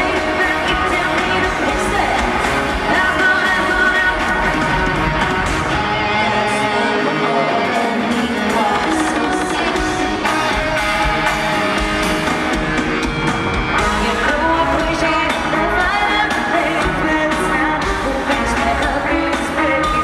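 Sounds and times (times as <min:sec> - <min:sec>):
person singing: 0:00.0 - 0:12.3, 0:13.8 - 0:20.0
live pop-rock band: 0:00.0 - 0:20.0.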